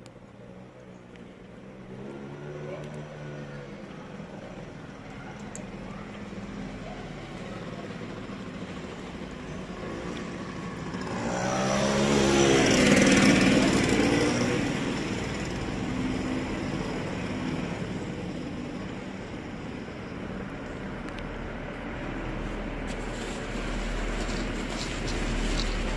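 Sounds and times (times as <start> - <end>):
motor vehicle passing by: 1.6 - 18.6, 21.5 - 25.9.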